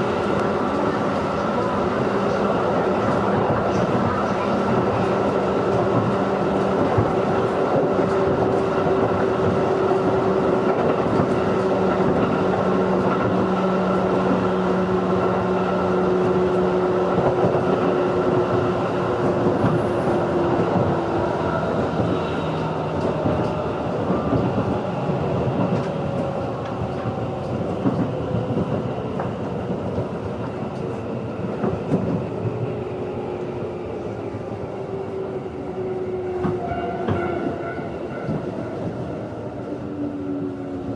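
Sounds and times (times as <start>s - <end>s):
rail joint clicks: 0.0s - 34.3s, 34.9s - 40.7s
train wheels rumbling: 0.0s - 40.9s.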